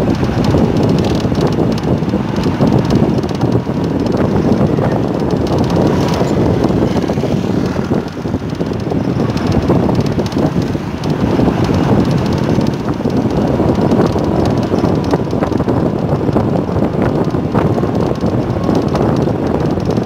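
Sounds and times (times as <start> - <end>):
moving vehicle noise: 0.0 - 20.0
passing traffic: 0.0 - 20.0
wind buffeting microphone: 0.0 - 20.0.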